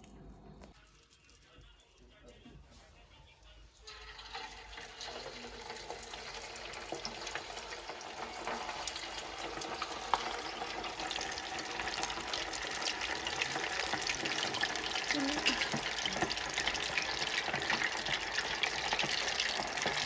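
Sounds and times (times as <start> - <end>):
food deep-frying in oil: 3.8 - 20.0.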